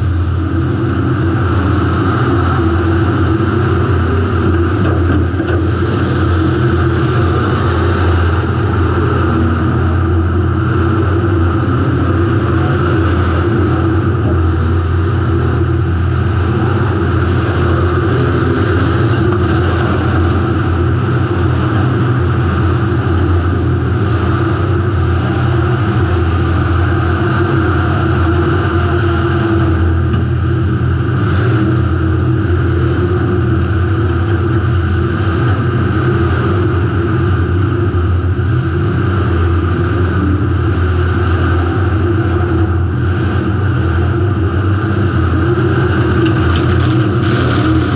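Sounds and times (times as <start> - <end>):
car engine running loud: 0.0 - 47.9.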